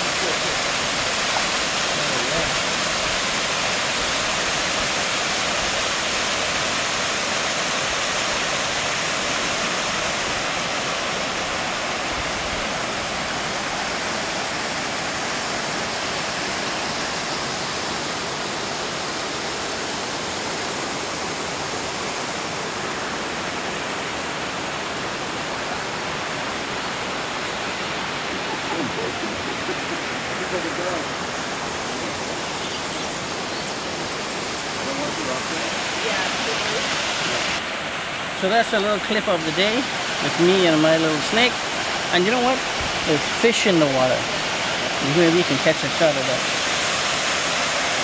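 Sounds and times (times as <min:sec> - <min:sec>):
waterfall rushing into a pool: 0:00.0 - 0:48.0.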